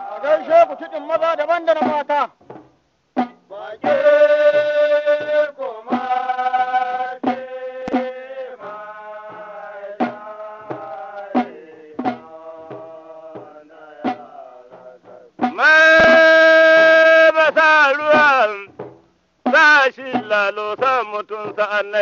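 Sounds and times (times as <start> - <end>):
drum strikes: 1.7 - 6.4, 7.2 - 22.0.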